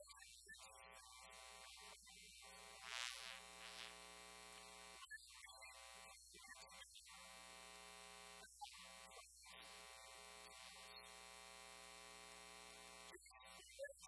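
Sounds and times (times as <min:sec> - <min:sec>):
faint mains hum: 0:00.6 - 0:13.9.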